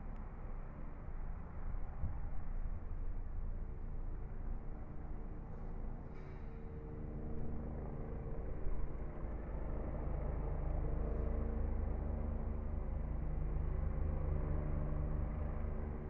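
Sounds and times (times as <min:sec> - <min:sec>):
droning hums: 0:00.0 - 0:16.0
vehicle rumble: 0:00.0 - 0:16.0.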